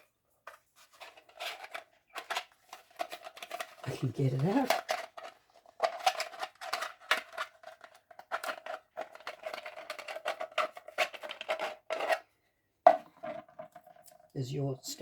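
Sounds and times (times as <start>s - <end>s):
plastic parts clicking and tapping: 0.0s - 12.2s.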